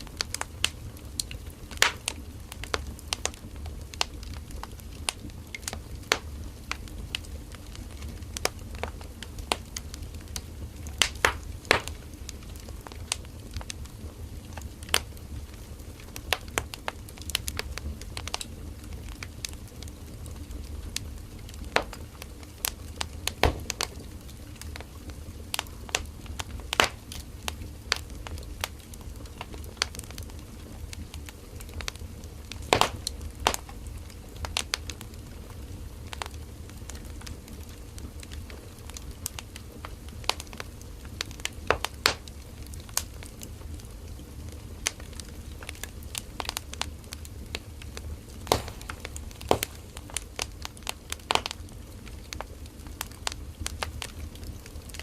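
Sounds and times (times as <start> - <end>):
firewood popping and snapping: 0.0 - 55.0
low rumble of flames: 0.0 - 55.0.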